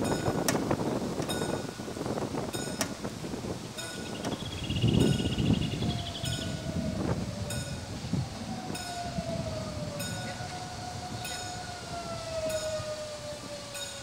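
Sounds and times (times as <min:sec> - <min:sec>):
tram motor whine: 0:00.0 - 0:14.0.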